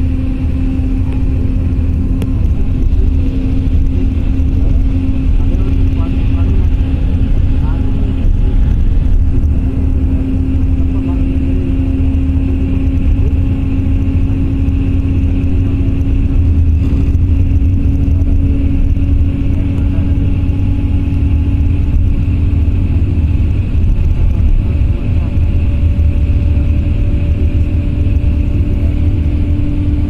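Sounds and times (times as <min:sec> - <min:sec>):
steady hum: 0:00.0 - 0:30.0
vehicle road noise on wet road: 0:00.0 - 0:30.0.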